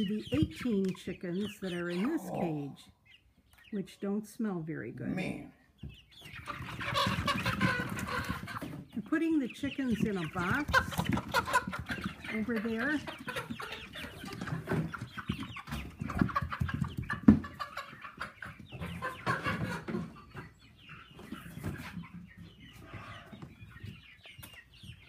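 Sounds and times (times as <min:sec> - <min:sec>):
chickens clucking and squawking: 0:00.0 - 0:25.0.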